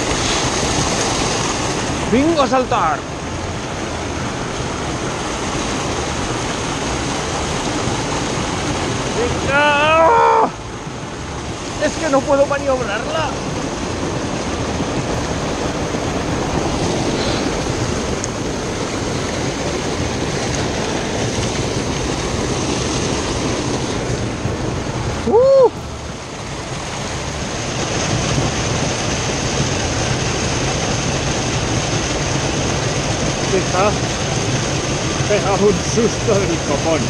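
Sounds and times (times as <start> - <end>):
river rapids rushing: 0.0 - 37.0.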